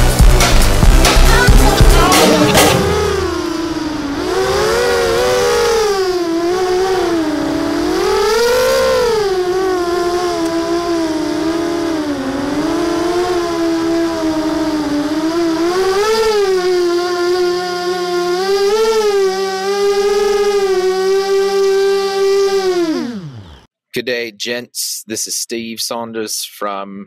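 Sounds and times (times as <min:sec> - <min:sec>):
drone motors and propellers whining: 0:00.0 - 0:23.7.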